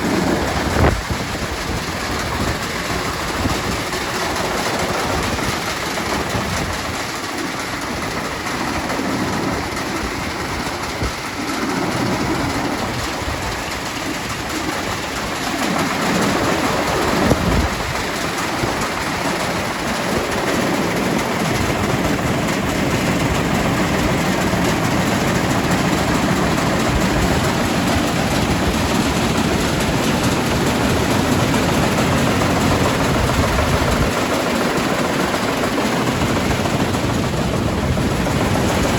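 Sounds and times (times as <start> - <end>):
grain cleaner mechanical rattle: 0.0 - 38.9.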